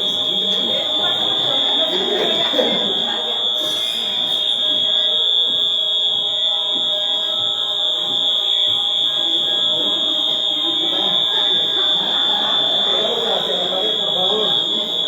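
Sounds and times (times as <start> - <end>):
faint murmur of voices: 0.0 - 15.0
high-pitched electronic alarm tone: 0.0 - 15.0.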